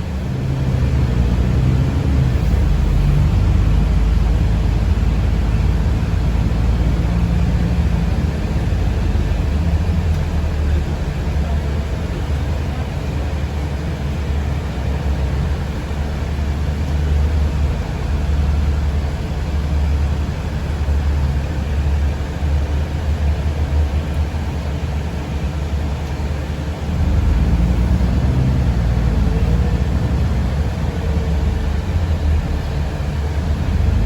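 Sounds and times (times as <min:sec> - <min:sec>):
vehicle cabin rumble: 0:00.0 - 0:34.0.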